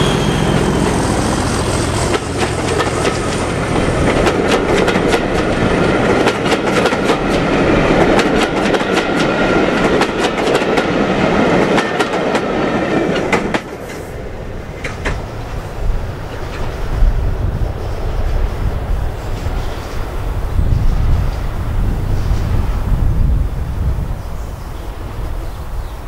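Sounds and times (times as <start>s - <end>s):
train wheels clicking over rail joints: 0.0s - 23.4s.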